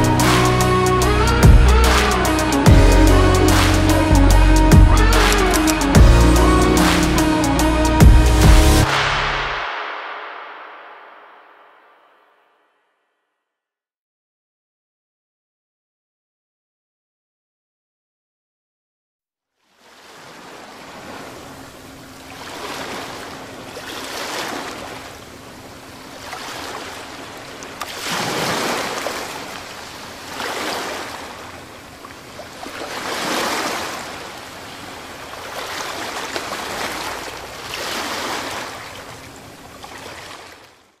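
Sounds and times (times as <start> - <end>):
sea waves washing in: 0.0 - 12.2, 19.7 - 41.0.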